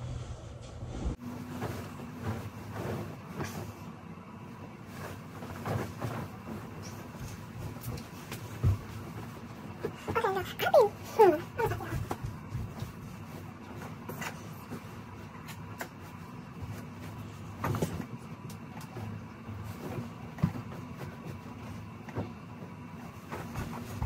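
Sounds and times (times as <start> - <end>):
low room hum: 0.0 - 24.0
bedding rustling and bumping: 1.2 - 24.0.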